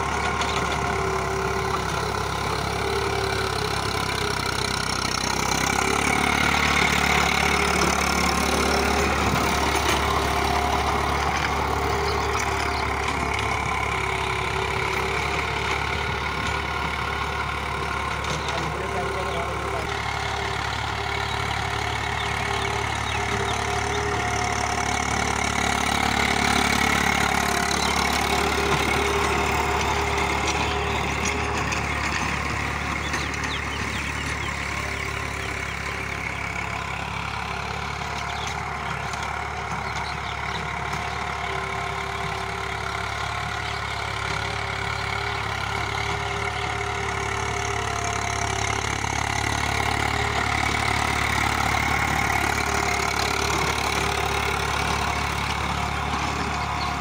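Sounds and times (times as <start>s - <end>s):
tractor diesel engine: 0.0s - 57.0s.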